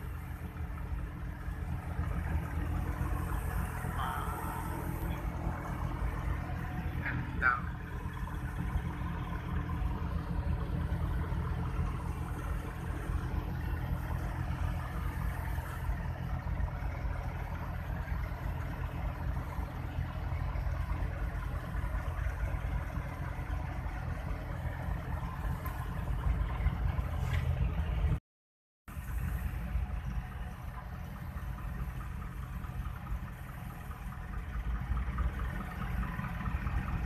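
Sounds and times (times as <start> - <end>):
car engine idling: 0.0 - 28.2, 28.9 - 37.0.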